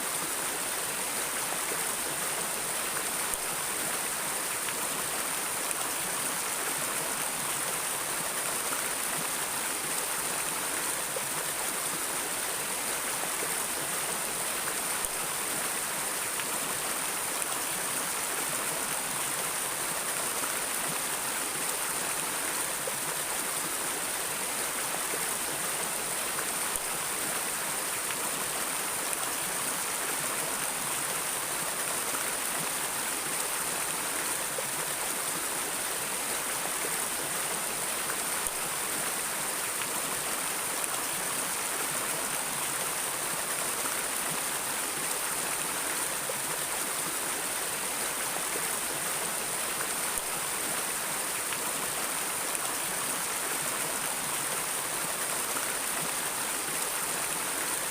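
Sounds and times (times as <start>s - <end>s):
stream flowing: 0.0s - 57.9s.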